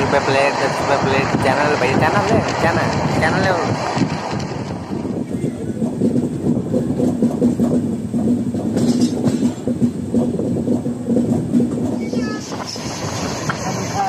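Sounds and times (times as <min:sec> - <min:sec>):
steady low hum: 0:00.0 - 0:14.0
train wheels clattering on rails: 0:00.0 - 0:14.0.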